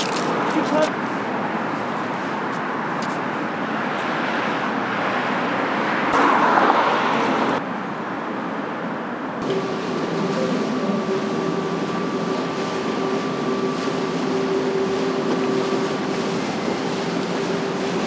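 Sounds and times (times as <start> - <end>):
street traffic rushing: 0.0 - 18.0.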